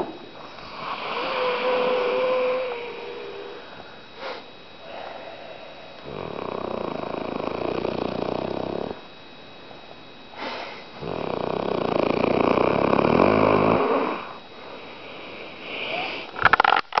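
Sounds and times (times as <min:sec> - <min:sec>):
person snoring: 0:00.0 - 0:09.0, 0:10.4 - 0:16.4.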